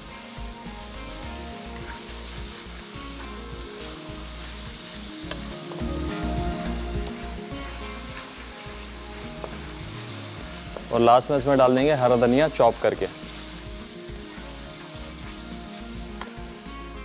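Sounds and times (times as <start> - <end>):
mince sizzling in a pan: 0.0 - 17.0.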